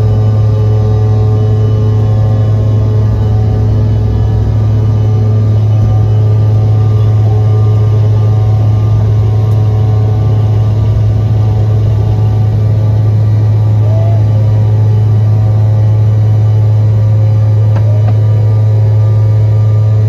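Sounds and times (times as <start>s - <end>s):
jet engines droning: 0.0s - 20.0s
low hum: 0.0s - 20.0s.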